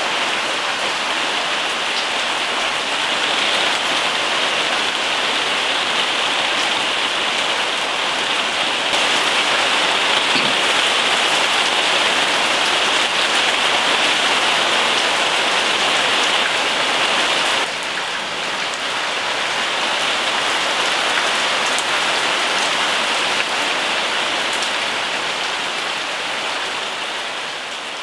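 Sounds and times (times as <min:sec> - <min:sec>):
rain splashing on wet ground: 0:00.0 - 0:28.0.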